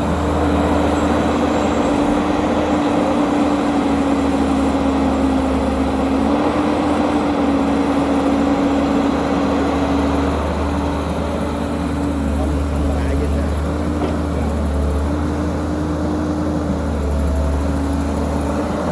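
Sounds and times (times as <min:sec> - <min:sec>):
diesel machinery engine running: 0:00.0 - 0:18.9.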